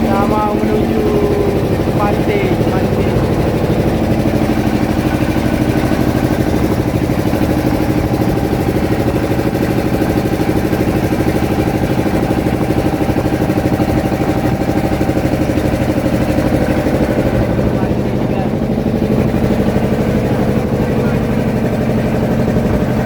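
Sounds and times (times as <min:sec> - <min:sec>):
boat engine throbbing: 0:00.0 - 0:23.0.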